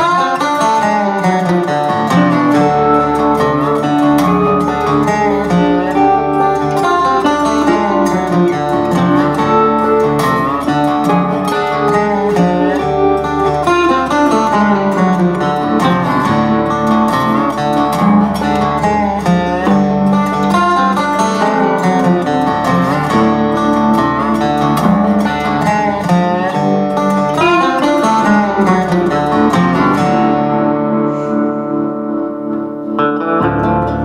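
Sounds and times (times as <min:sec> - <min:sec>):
music with plucked strings: 0:00.0 - 0:34.0.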